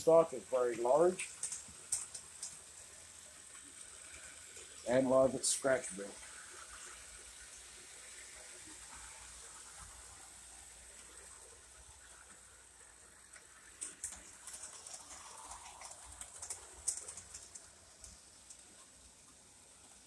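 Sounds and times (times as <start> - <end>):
model train wheels clicking: 0.0 - 20.0.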